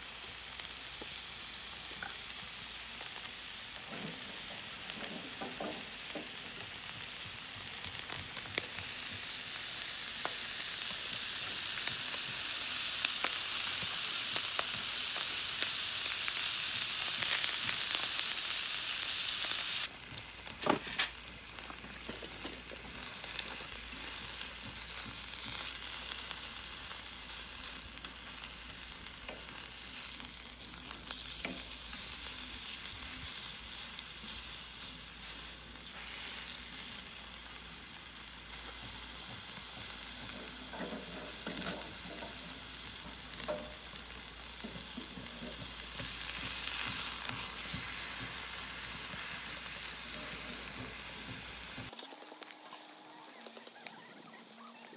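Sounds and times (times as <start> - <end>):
steak sizzling in frying pan: 0.0 - 54.6.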